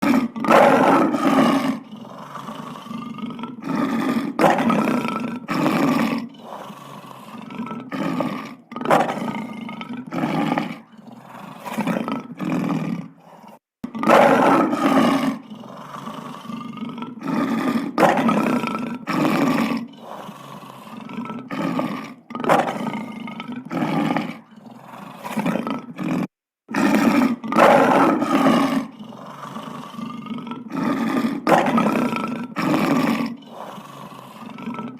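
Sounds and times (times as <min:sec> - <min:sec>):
big cat roaring: 0:00.0 - 0:34.9.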